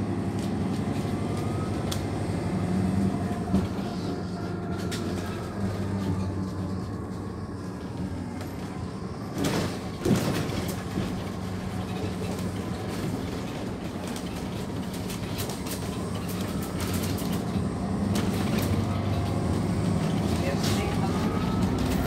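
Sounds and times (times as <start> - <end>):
bus diesel engine running: 0.0 - 22.0
bus body rattling and knocking: 3.1 - 22.0.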